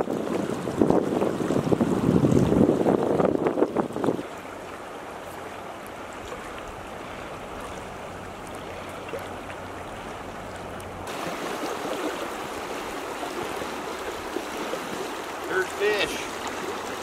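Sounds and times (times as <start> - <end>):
river rushing over riffles: 0.0 - 17.0.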